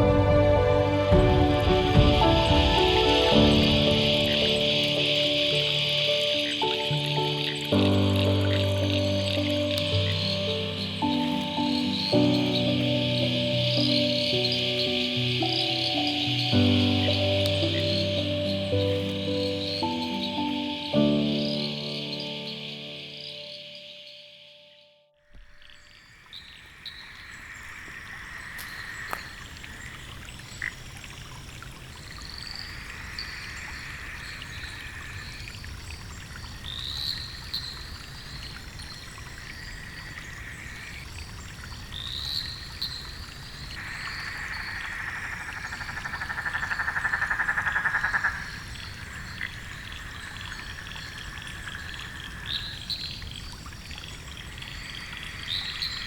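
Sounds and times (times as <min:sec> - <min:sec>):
frogs calling: 0:02.0 - 0:56.0.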